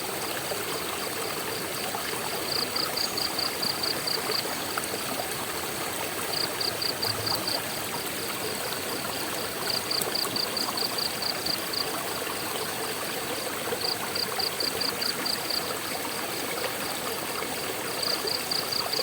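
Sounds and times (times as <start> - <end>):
flowing water: 0.0 - 19.0.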